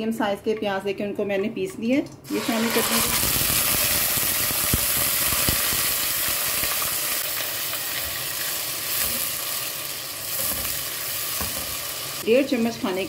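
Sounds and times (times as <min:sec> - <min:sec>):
onion paste sizzling in oil: 0:02.3 - 0:13.0.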